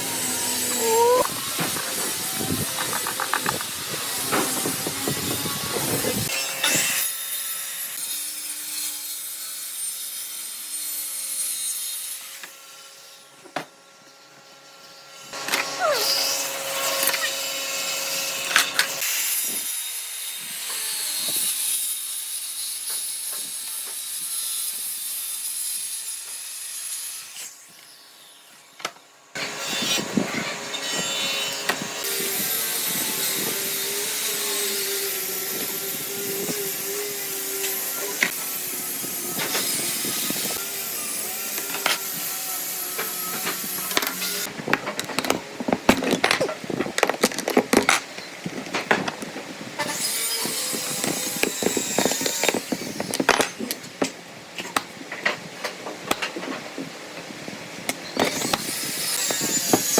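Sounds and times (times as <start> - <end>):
power tool cutting wood: 0.0 - 13.8, 14.4 - 48.0, 49.8 - 54.1, 57.9 - 59.9.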